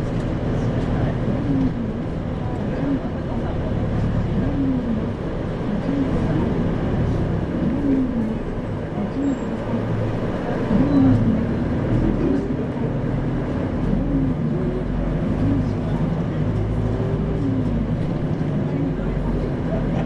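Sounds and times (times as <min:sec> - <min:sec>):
bus engine hum: 0:00.0 - 0:20.0
road and body noise: 0:00.0 - 0:20.0.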